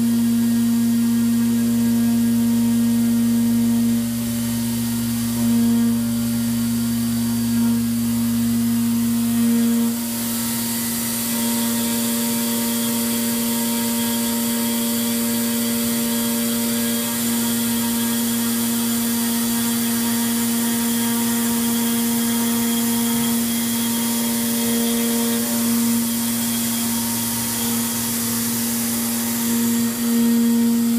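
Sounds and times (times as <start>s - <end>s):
milling machine cutting metal: 0.0s - 30.9s.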